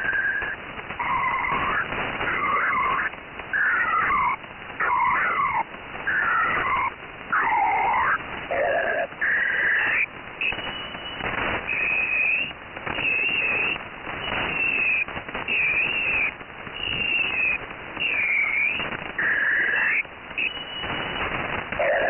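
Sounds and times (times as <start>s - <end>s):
bursts of hiss: 0.0s - 22.0s
gliding wavering radio whistles: 0.0s - 22.0s
radio band noise: 0.0s - 22.0s.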